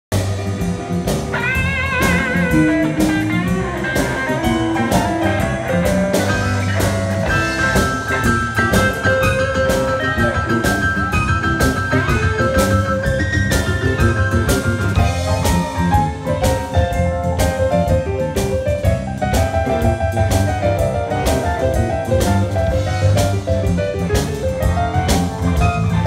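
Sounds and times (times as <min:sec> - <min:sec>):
drum kit steady beat: 0:00.1 - 0:26.0
live band playing slow blues: 0:00.1 - 0:26.0
electric guitar lead notes: 0:00.2 - 0:26.0.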